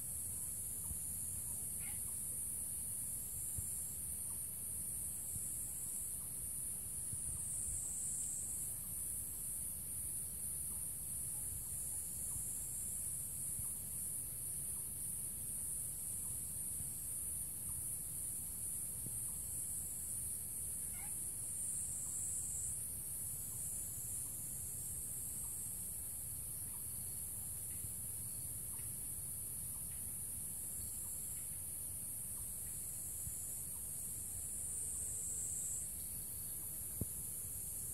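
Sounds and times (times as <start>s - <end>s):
insects buzzing: 0.0s - 37.9s.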